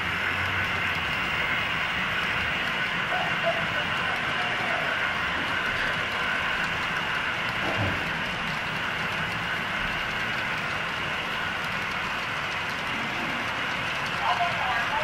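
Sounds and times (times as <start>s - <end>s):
model train wheels on rail: 0.0s - 15.0s.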